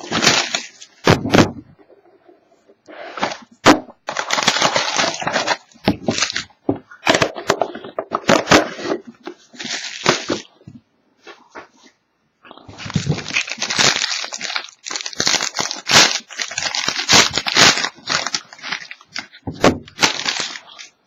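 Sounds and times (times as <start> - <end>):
plastic wrap tearing and crinkling: 0.0 - 1.4, 3.2 - 10.5, 12.7 - 21.0.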